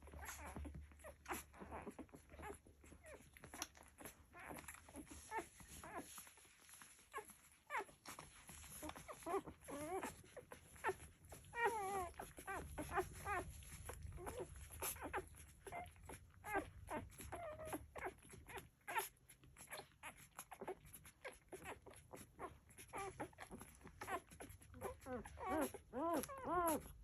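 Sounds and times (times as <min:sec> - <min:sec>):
puppies whimpering and squeaking: 0:00.0 - 0:27.0.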